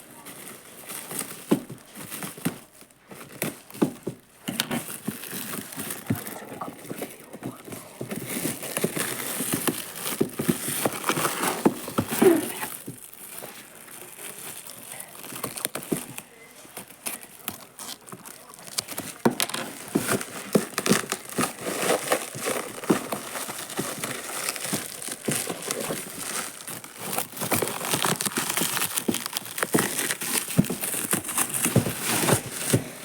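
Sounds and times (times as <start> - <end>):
plastic and cardboard crinkling: 0.0 - 33.0
packaging clicks and knocks: 0.2 - 33.0
packaging tearing: 0.9 - 33.0.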